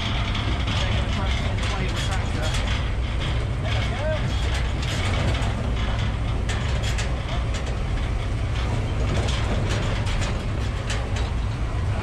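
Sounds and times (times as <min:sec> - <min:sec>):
metal cage clicks and rattles: 0:00.0 - 0:11.4
vehicle engine rumbling: 0:00.0 - 0:12.0.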